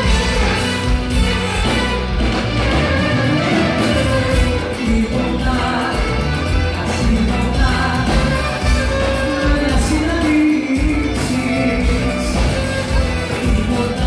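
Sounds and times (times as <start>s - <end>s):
band playing: 0.0s - 14.0s
loud bass beat: 0.0s - 14.0s
woman singing: 0.0s - 14.0s.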